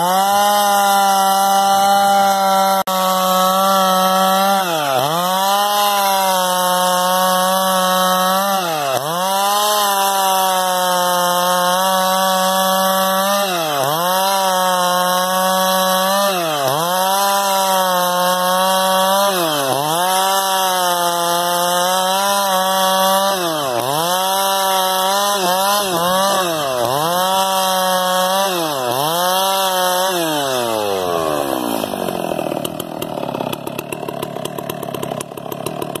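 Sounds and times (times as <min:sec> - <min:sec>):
chainsaw cutting through log: 0:00.0 - 0:36.0.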